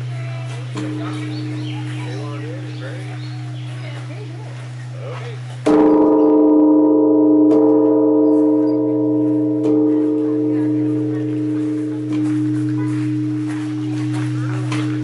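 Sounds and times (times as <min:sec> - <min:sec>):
large temple bell ringing: 0:00.0 - 0:15.0.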